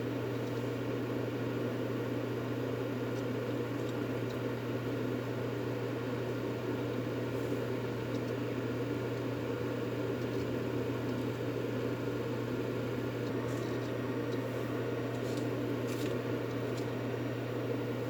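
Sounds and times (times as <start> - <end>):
low even white noise whir: 0.0 - 18.0.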